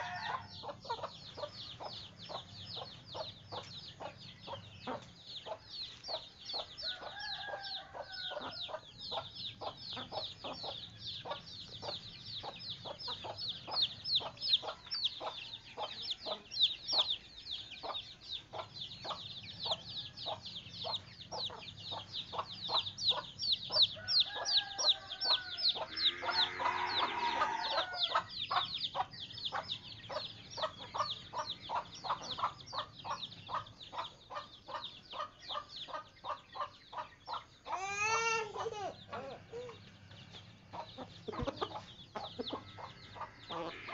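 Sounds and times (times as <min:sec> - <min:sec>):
chickens clucking: 0:00.0 - 0:43.9
high-pitched chick peeps: 0:00.0 - 0:43.9.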